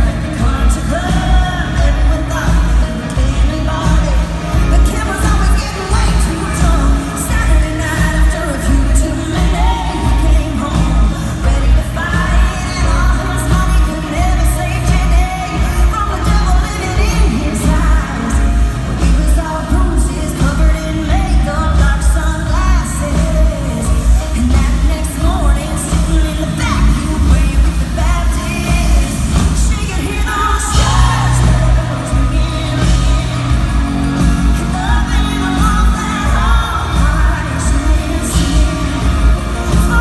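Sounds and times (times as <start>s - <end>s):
electric guitar: 0.0s - 40.0s
pulsing bass and drum beat: 0.0s - 40.0s
woman singing: 0.0s - 40.0s.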